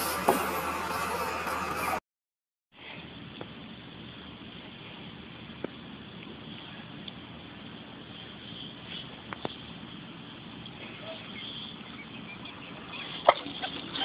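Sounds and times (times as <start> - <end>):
low outdoor background: 0.0 - 2.0, 2.7 - 14.0.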